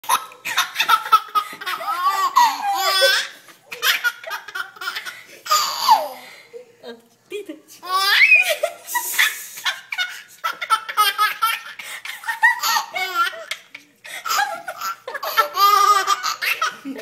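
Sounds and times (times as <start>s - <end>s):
baby laughing: 0.0s - 6.2s, 7.8s - 17.0s.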